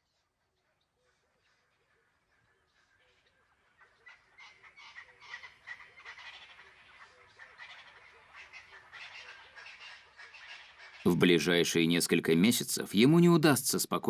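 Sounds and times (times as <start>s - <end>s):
bird calls: 0.0s - 11.9s
frogs croaking: 0.7s - 13.1s.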